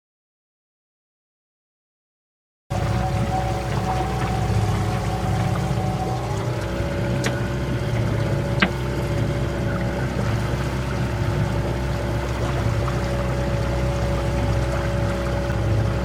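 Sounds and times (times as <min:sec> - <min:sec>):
boat motor running: 0:02.7 - 0:16.0
water rushing: 0:02.7 - 0:16.0.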